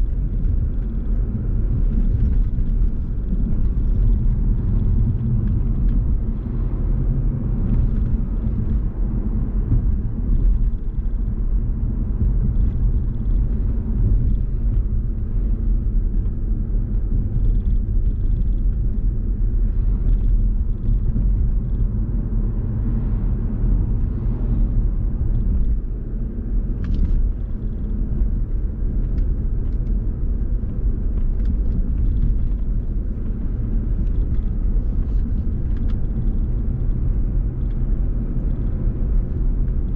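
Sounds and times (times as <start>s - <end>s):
car driving along road: 0.0s - 39.9s.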